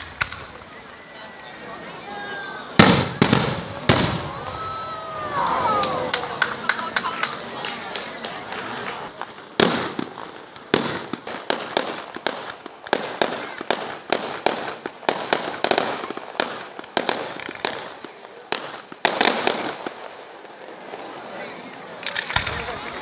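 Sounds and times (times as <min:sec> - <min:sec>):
fireworks bangs: 0:00.0 - 0:20.2, 0:20.8 - 0:23.0
fireworks crackling: 0:00.0 - 0:23.0.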